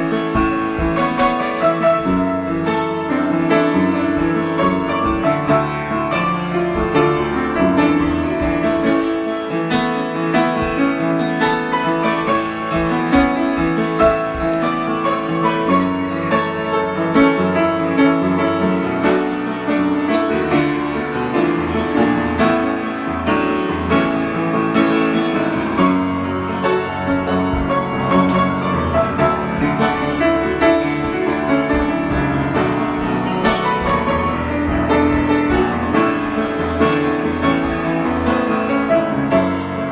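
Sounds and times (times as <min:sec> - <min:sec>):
solo piano improvisation: 0:00.0 - 0:39.9.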